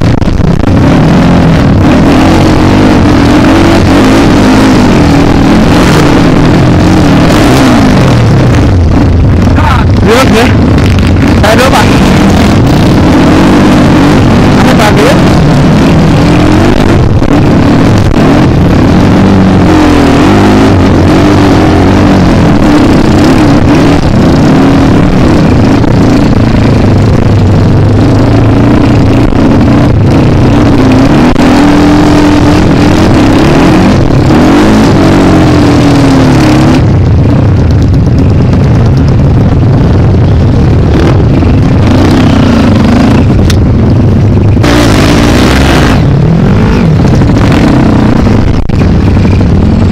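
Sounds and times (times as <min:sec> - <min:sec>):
dirt bike engine revving: 0:00.0 - 0:49.9
loud rushing noise: 0:00.0 - 0:49.9.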